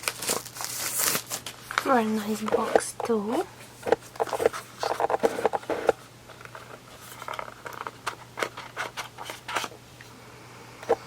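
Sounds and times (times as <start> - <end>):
packaging clicks and rustles: 0.0 - 9.8.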